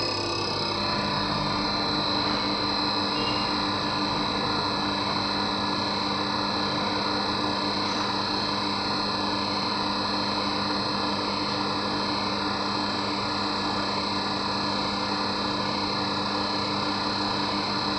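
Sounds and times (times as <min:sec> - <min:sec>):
machine humming with high whine: 0:00.0 - 0:17.9.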